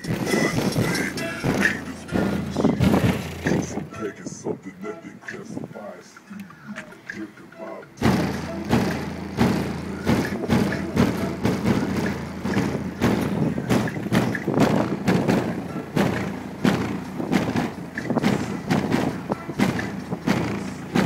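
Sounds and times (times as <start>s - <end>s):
bass-heavy music through subwoofer: 0.0s - 21.0s.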